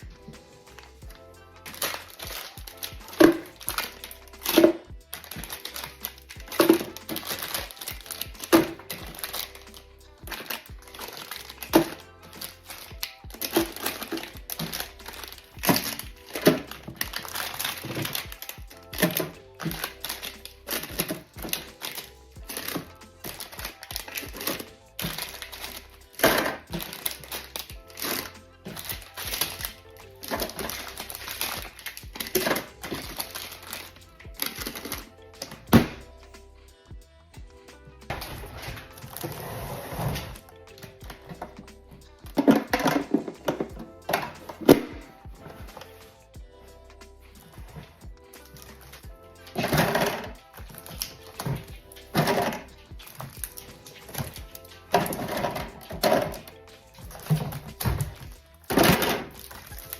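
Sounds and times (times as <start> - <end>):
background music: 0.0 - 59.9
plastic packaging crinkling: 1.7 - 36.0, 38.1 - 41.6, 48.5 - 59.9.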